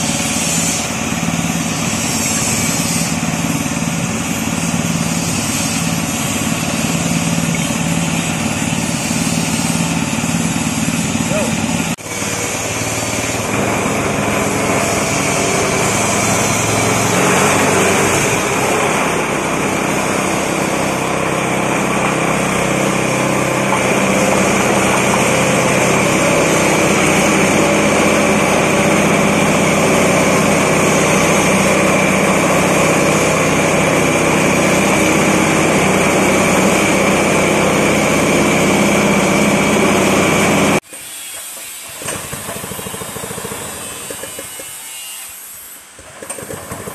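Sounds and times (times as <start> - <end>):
grinding mill droning and whining: 0.0 - 40.9.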